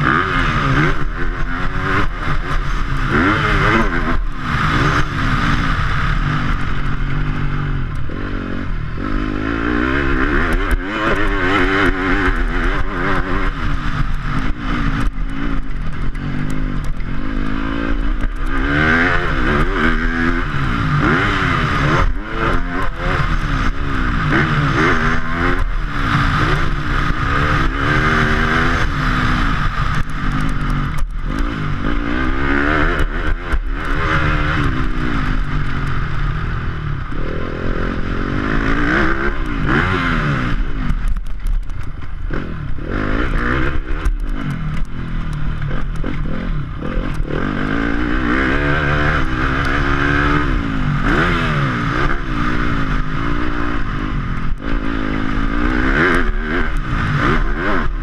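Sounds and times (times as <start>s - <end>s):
motorbike engine revving: 0.0s - 58.0s.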